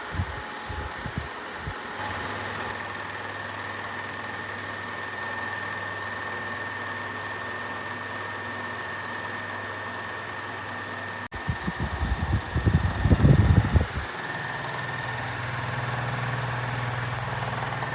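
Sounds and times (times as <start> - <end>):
box fan humming with whine: 0.0 - 17.9.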